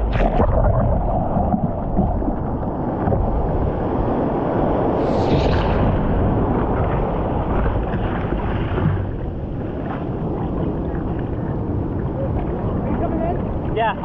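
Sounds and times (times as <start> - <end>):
surf whitewater rushing: 0.0 - 14.0
wind buffeting microphone: 0.0 - 14.0.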